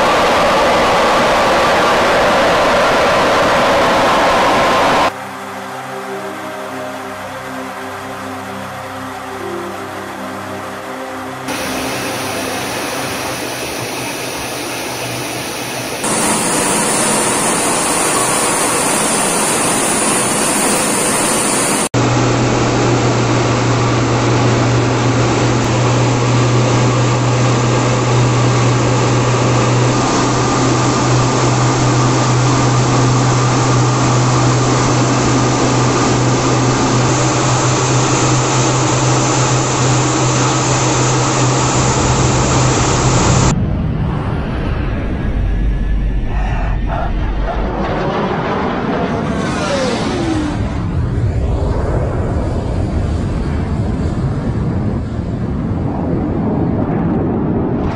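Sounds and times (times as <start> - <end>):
jet engine rushing: 0.0 - 5.2, 11.5 - 57.9.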